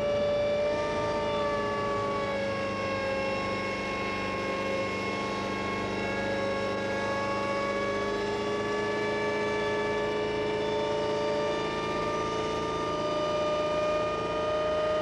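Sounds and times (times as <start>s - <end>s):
helicopter engine and rotor whine: 0.0s - 15.0s.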